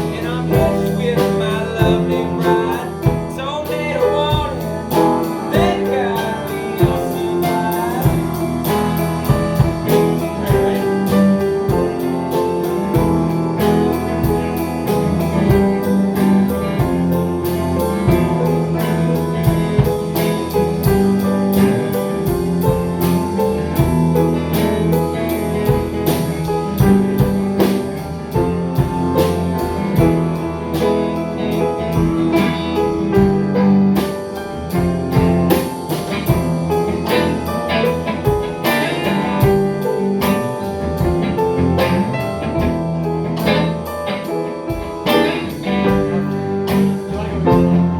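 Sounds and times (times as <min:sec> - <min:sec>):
drum kit beat: 0:00.0 - 0:47.9
guitar: 0:00.0 - 0:47.9
keyboard: 0:00.0 - 0:47.9.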